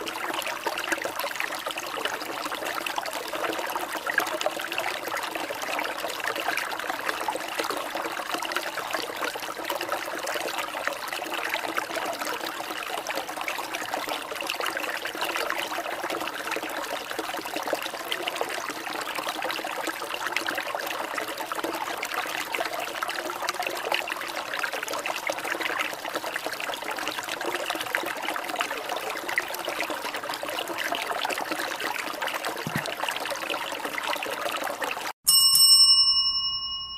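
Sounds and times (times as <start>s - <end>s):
water trickling: 0.0s - 35.2s.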